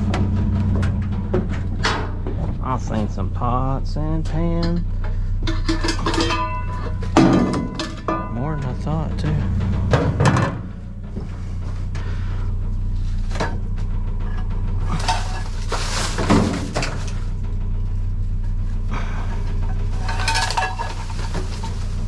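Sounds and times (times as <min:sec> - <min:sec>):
items clattering in a dumpster: 0:00.0 - 0:22.0
steady low hum: 0:00.0 - 0:22.0.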